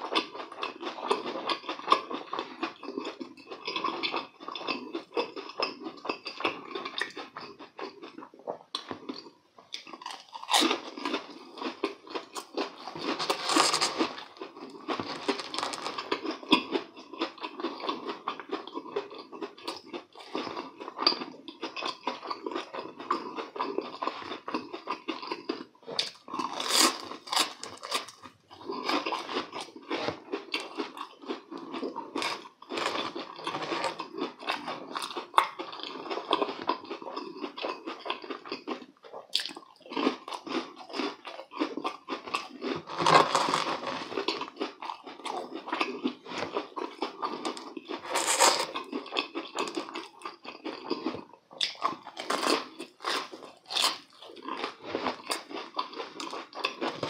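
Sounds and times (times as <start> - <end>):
crunchy chewing of fried food: 0.0 - 57.0
wet chewing: 0.1 - 57.0.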